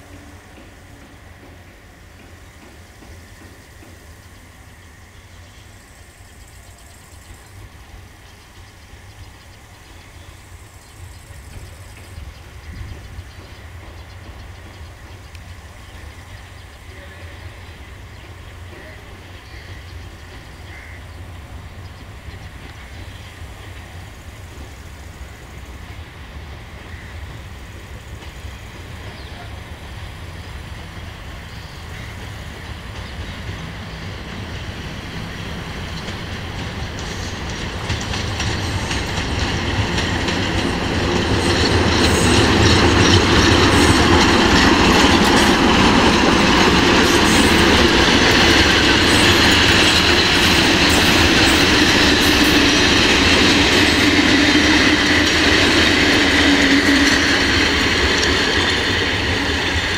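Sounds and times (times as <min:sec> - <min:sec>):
train wheels clattering over rail joints: 0:00.0 - 0:05.2, 0:06.1 - 0:59.9
diesel locomotive approaching: 0:00.0 - 0:59.9.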